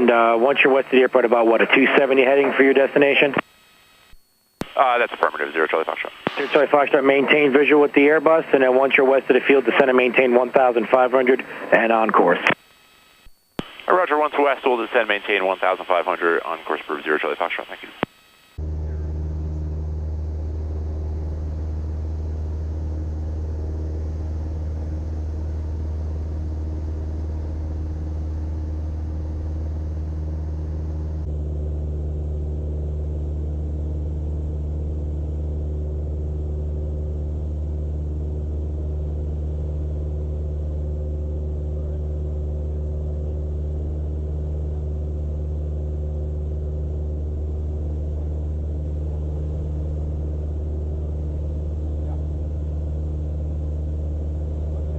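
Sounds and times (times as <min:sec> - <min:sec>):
propeller plane engine droning: 0:00.0 - 0:03.4, 0:04.6 - 0:12.5, 0:18.6 - 0:54.9.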